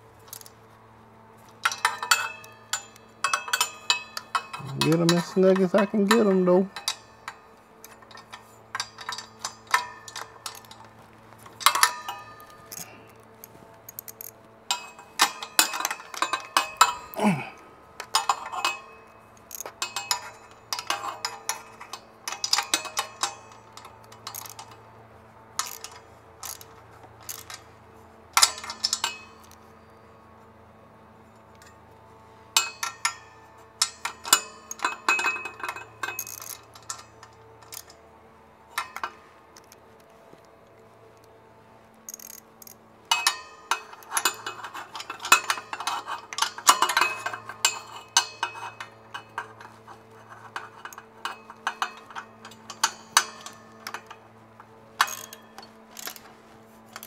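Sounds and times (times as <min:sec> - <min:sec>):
hand tools clicking on metal: 0:00.2 - 0:00.6, 0:01.4 - 0:24.9, 0:25.6 - 0:27.7, 0:28.4 - 0:29.7, 0:32.6 - 0:38.0, 0:38.7 - 0:41.3, 0:42.1 - 0:57.0.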